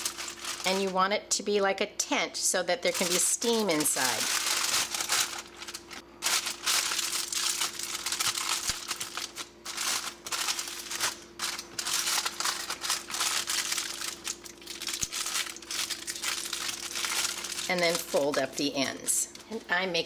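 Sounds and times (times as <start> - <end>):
aluminium foil crinkling: 0.0 - 1.1, 2.8 - 19.7.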